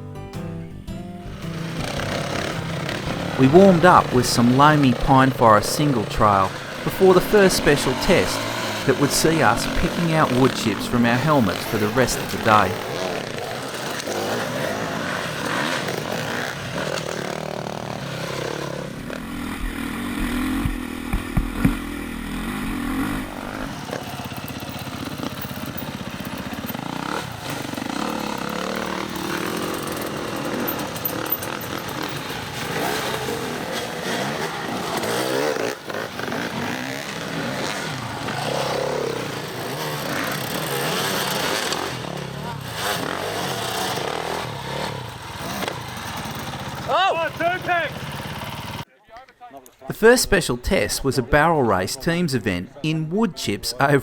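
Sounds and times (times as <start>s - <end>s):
dirt bike engines revving: 1.2s - 48.9s, 50.0s - 54.0s.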